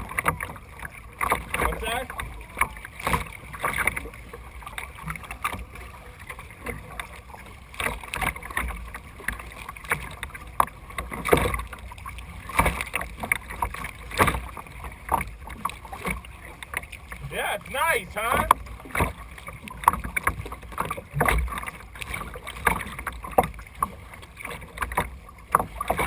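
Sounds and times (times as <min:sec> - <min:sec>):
paddle splashing in water: 0:00.0 - 0:26.0.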